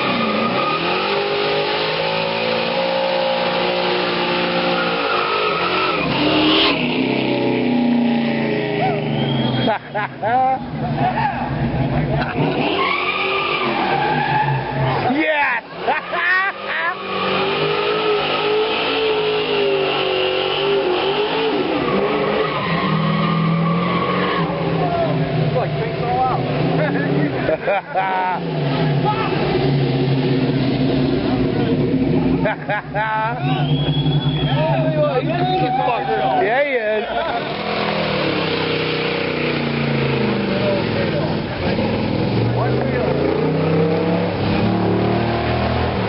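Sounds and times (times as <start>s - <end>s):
car engine revving: 0.0s - 46.0s
tires squealing: 0.0s - 46.0s.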